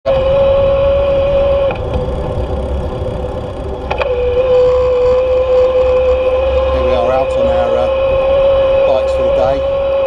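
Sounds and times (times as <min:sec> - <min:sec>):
electric bike motor whining: 0:00.1 - 0:10.0
low rumble: 0:00.1 - 0:10.0.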